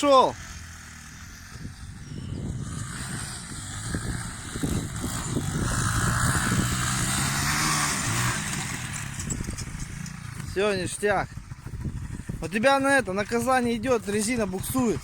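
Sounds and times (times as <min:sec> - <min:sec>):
motorcycle engine under load: 0:00.0 - 0:15.0.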